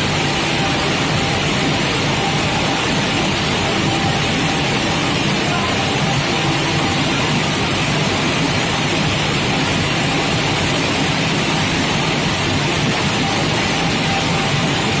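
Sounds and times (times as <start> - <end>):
rain-like rushing hiss: 0.0 - 15.0.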